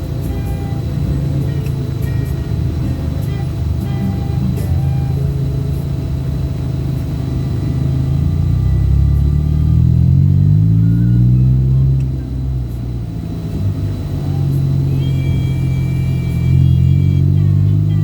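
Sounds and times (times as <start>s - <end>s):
vehicle engine accelerating: 0.0s - 18.0s.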